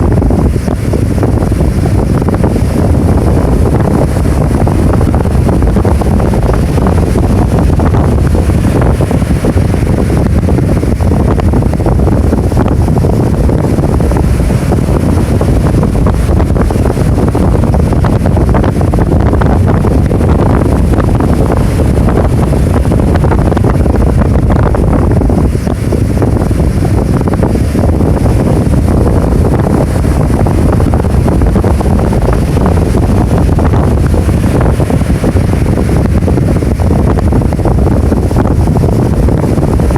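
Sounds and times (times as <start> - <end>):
rough surf: 0.0 - 39.9
wind buffeting microphone: 0.0 - 39.9.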